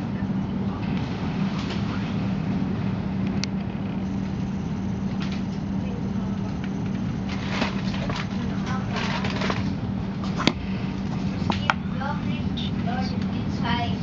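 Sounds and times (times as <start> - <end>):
train carriage hum and rumble: 0.0 - 14.0.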